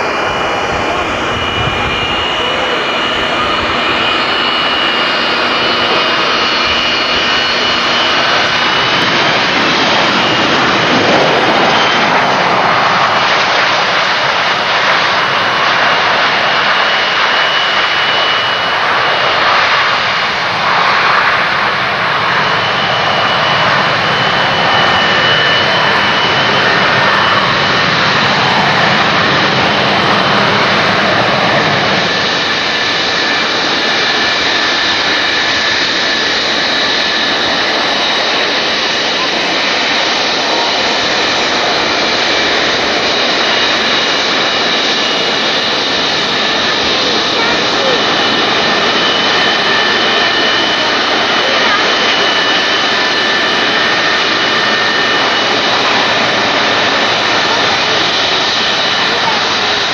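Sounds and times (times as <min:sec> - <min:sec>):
high steady whine: 0:00.0 - 0:59.9
jet engines running: 0:00.0 - 0:59.9.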